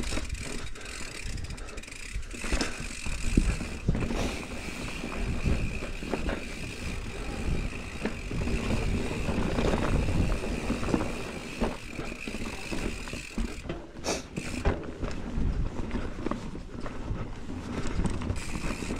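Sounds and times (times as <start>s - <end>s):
bike chain and frame clattering: 0.0s - 18.9s
bike tyres rumbling over dirt: 0.0s - 18.9s.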